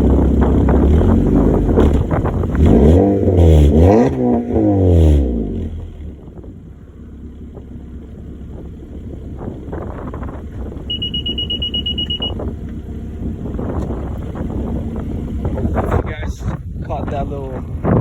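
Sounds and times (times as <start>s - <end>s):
car exhaust revving and idling: 0.0s - 16.8s.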